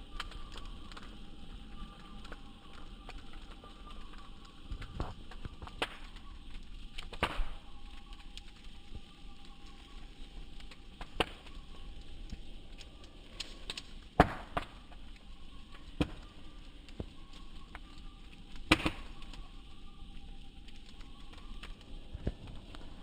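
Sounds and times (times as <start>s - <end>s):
bonfire crackling: 0.0s - 23.0s
fire pops: 0.0s - 23.0s.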